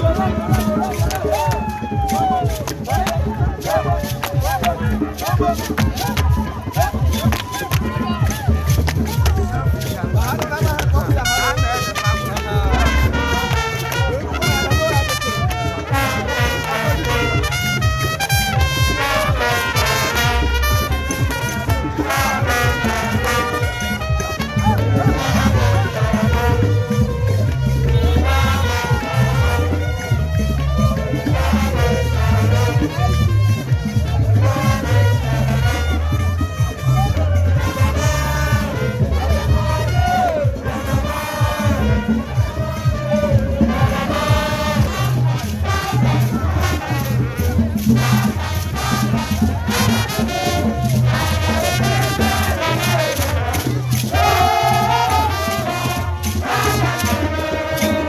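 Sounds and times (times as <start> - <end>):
dance music with heavy bass: 0.0 - 58.0.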